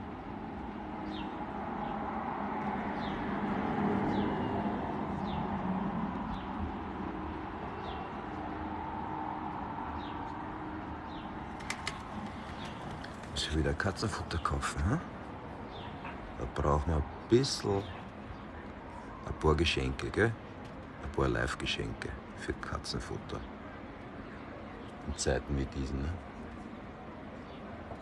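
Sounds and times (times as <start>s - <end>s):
outdoor background hum: 0.0s - 28.0s.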